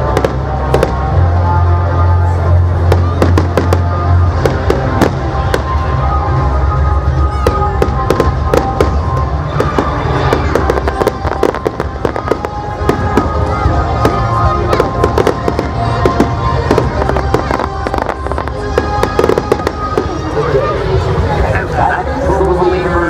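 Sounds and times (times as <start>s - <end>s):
fireworks bangs and crackling: 0.0s - 21.6s.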